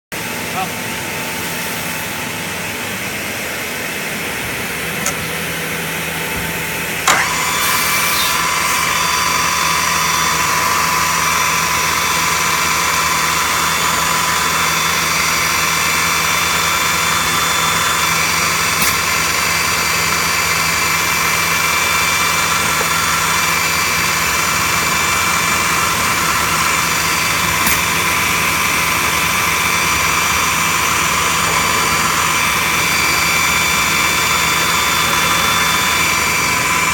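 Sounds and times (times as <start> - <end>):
cnc router whining: 0.2 - 36.9
steady high tones of motor: 0.2 - 36.9.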